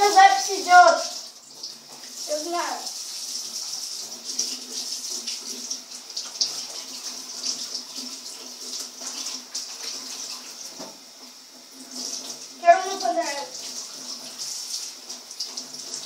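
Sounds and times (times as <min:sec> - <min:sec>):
tap water running: 0:00.0 - 0:16.0.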